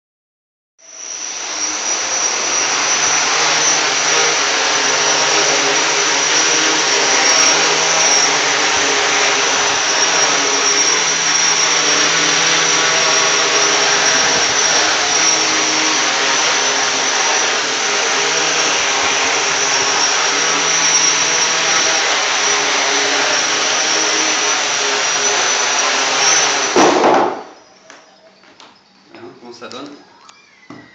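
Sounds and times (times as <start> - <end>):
quadcopter motors buzzing: 0.8 - 30.9.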